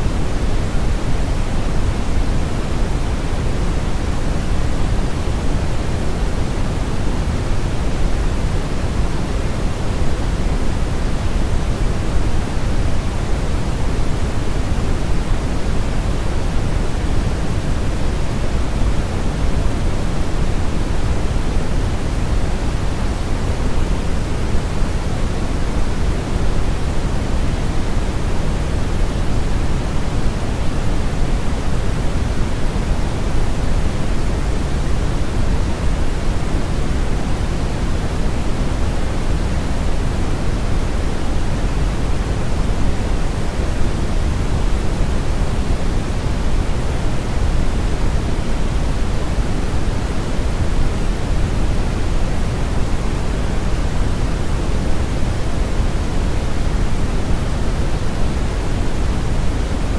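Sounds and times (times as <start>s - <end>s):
brown noise rumbling hiss: 0.0s - 59.9s.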